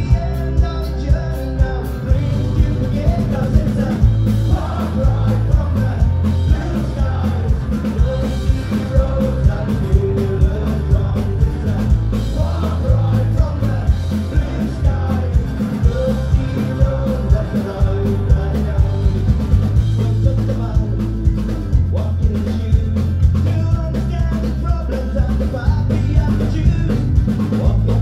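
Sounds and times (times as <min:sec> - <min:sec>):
drums driving a beat: 0:00.0 - 0:28.0
live band playing: 0:00.0 - 0:28.0
person singing: 0:00.0 - 0:28.0.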